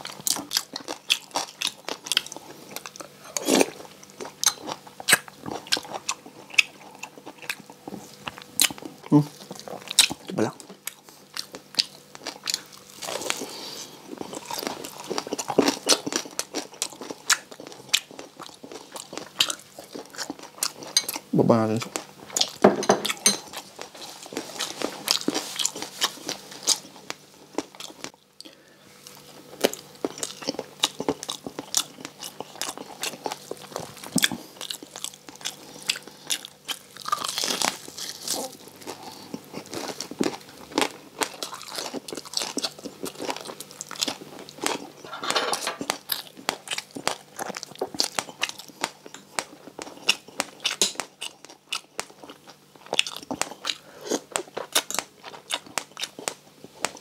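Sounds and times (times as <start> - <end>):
crunching and chewing crispy pork: 0.0 - 57.0.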